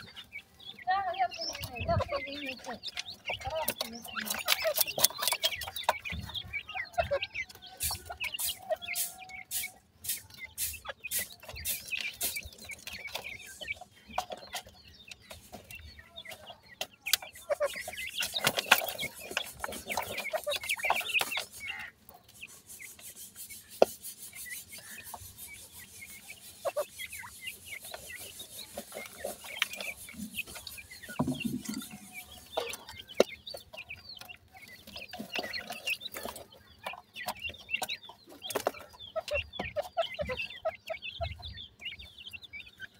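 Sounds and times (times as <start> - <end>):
chicks scratching in dry soil: 0.0 - 42.9
soft clucking calls: 0.0 - 42.9.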